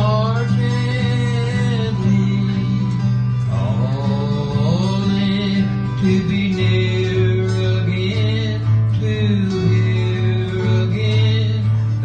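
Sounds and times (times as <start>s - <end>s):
acoustic guitar waltz: 0.0s - 12.0s
man singing: 0.0s - 12.0s.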